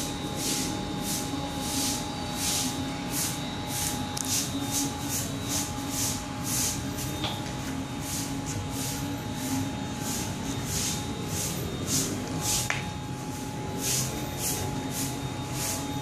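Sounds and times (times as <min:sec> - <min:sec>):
drone motors humming: 0:00.0 - 0:16.0.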